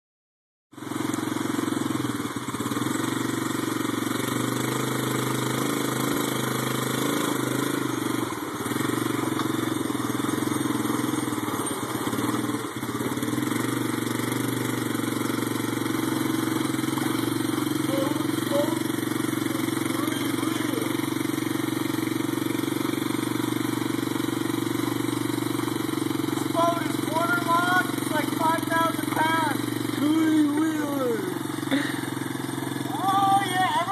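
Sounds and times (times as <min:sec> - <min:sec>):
single-cylinder engine under load: 0:00.7 - 0:33.9.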